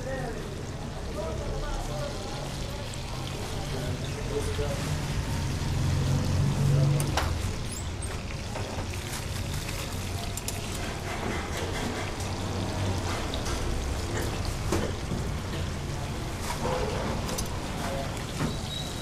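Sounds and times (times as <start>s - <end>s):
hissing kitchen noise: 0.0s - 19.0s.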